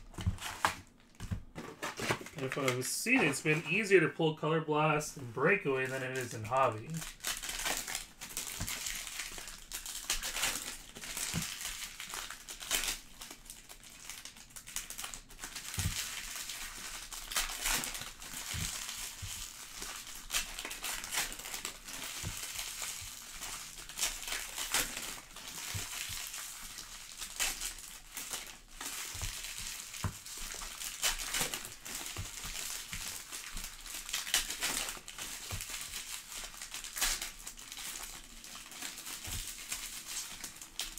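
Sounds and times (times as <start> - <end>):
foil wrappers crinkling and tearing: 0.0 - 4.0, 5.4 - 40.9.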